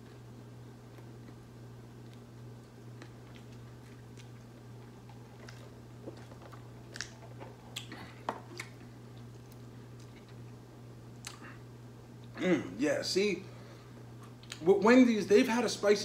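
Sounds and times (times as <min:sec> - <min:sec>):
man chewing: 0:00.0 - 0:12.4, 0:13.9 - 0:14.6
steady low hum: 0:00.0 - 0:16.0.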